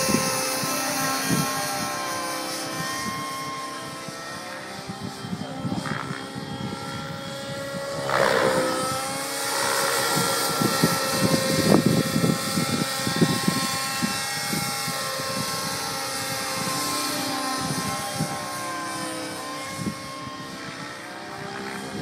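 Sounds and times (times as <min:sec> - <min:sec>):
model helicopter engine whine: 0:00.0 - 0:22.0.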